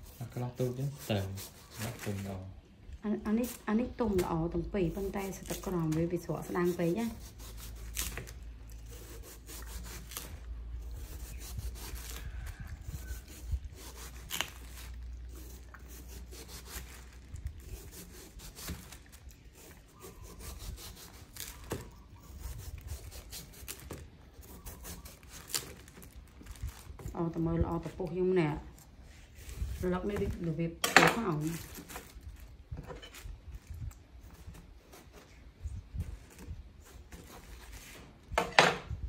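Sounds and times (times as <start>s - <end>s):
knife cutting watermelon: 0.0s - 2.4s, 3.2s - 39.0s.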